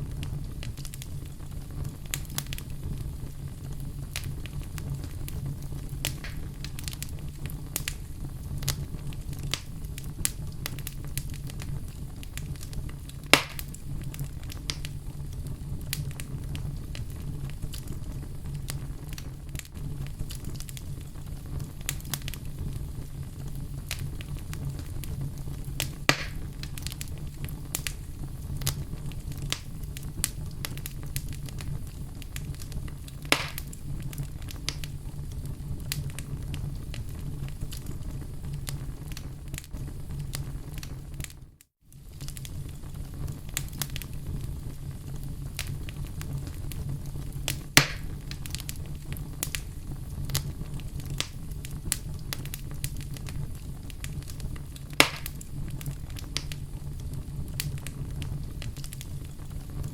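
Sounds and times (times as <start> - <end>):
low rumble of flame: 0.0 - 59.9
sharp fire pops: 0.0 - 59.9
wood fire crackling: 0.0 - 59.9.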